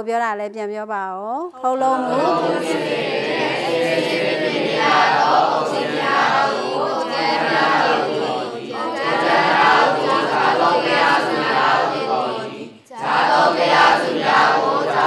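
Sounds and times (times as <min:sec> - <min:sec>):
many voices chanting: 0:01.9 - 0:15.0.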